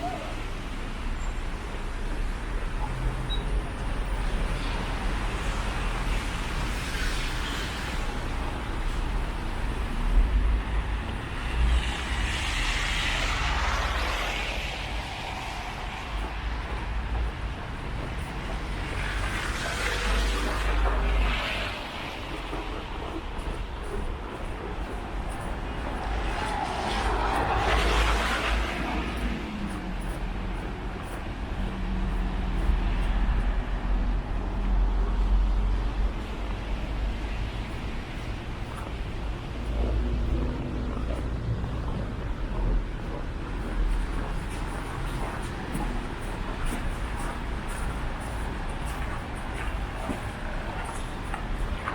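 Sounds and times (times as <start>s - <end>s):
vehicles passing: 0.0s - 51.9s
steady low rumble: 8.0s - 51.9s.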